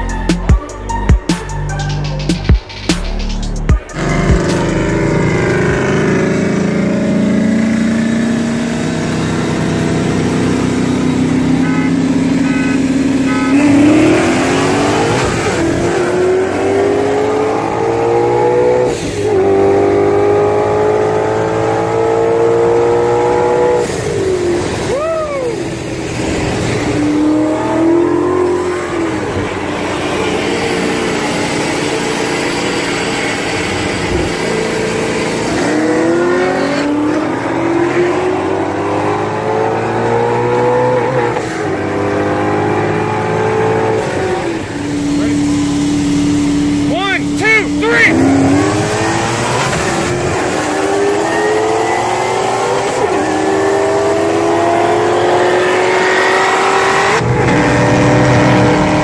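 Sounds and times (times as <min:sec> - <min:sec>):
car engine accelerating: 0:01.6 - 0:59.0.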